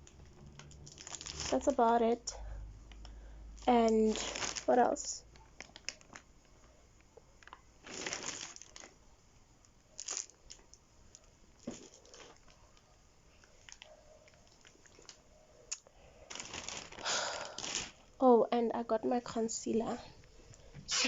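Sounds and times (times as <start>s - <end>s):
rustles and crinkles: 0.0s - 18.2s.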